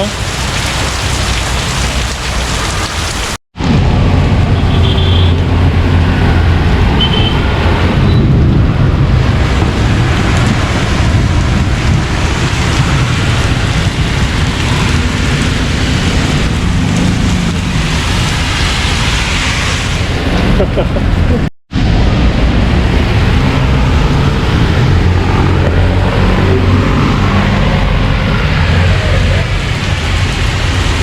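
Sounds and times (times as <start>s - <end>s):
heavy rain: 0.0s - 31.0s
wet tyres on road: 0.0s - 31.0s.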